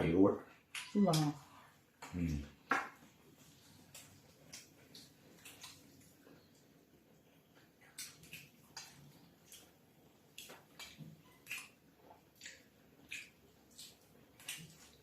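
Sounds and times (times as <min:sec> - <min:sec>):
chewing smacks: 0:02.0 - 0:15.0.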